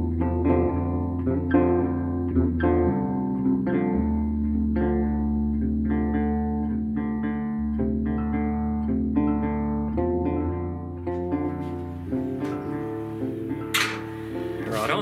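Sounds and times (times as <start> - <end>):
plucked guitar notes: 0.0 - 15.0
sustained bass line: 0.0 - 15.0.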